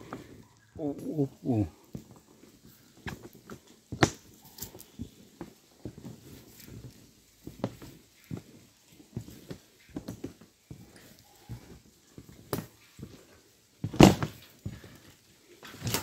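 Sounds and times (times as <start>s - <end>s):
footsteps on bridge deck: 0.0s - 16.0s.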